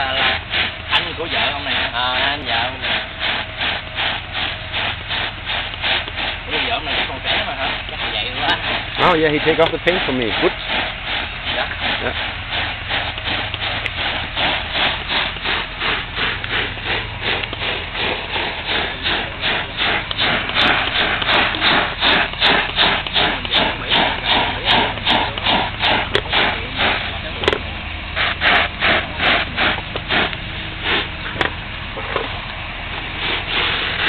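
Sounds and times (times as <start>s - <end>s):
blowtorch roaring: 0.0s - 34.0s
rhythmic scrubbing: 0.0s - 34.0s.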